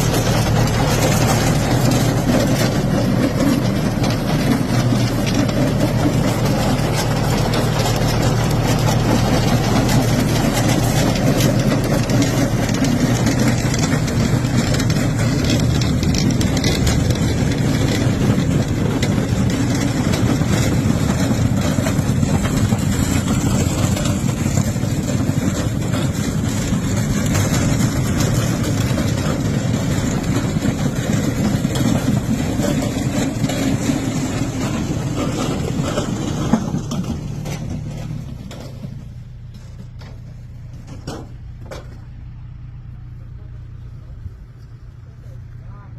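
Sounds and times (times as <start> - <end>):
machine engine running steadily: 0.0 - 45.9.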